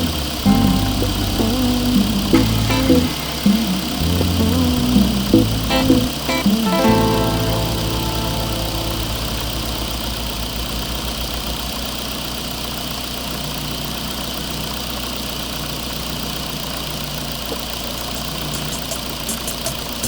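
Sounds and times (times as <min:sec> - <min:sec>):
toy truck engine idling: 0:00.0 - 0:20.0.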